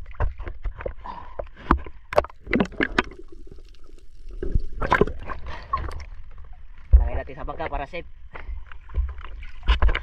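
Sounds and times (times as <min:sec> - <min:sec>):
water splashing against camera: 0:00.0 - 0:10.0.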